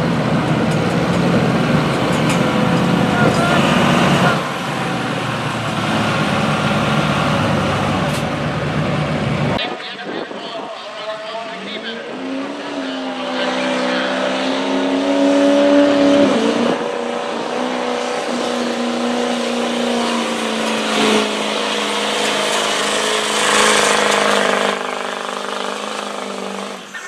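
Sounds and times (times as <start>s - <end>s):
diesel engine revving under load: 0.0s - 9.6s, 11.7s - 27.0s.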